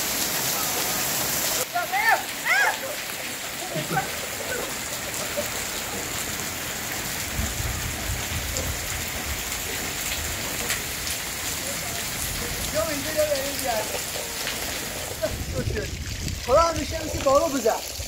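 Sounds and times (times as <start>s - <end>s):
heavy rain falling: 0.0s - 18.0s
raindrops ticking sharply: 0.0s - 18.0s.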